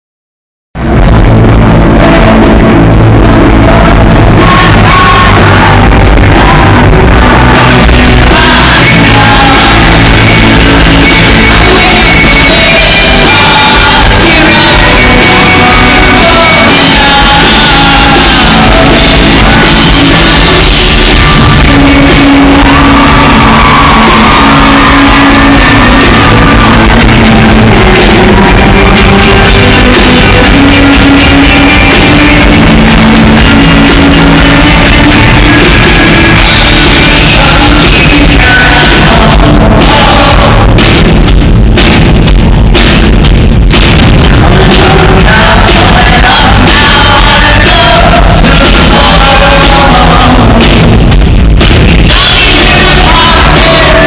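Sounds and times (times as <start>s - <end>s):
rock band playing live: 0.8s - 54.0s
lead singer singing: 1.3s - 41.2s, 44.1s - 51.1s, 51.9s - 54.0s.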